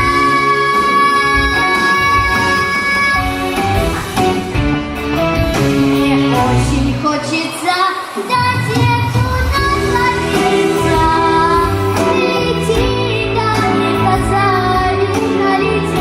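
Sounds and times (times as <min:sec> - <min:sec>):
girl singing: 0:00.0 - 0:03.4, 0:05.9 - 0:16.0
instrumental accompaniment: 0:00.0 - 0:07.2, 0:08.4 - 0:16.0.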